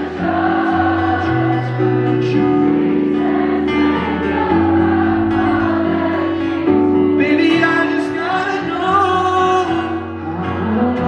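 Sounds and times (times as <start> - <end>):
crowd singing in chorus: 0.0 - 11.0
guitar: 0.0 - 11.0
piano chords: 0.0 - 11.0.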